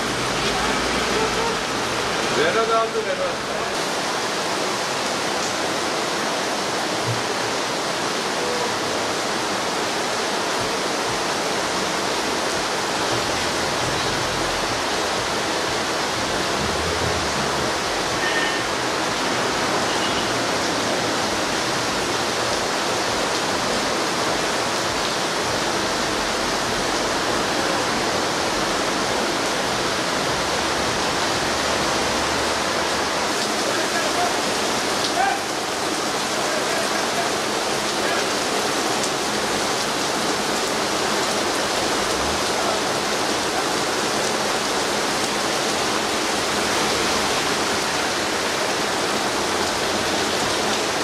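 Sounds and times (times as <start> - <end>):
torrential rain pouring: 0.0 - 51.0.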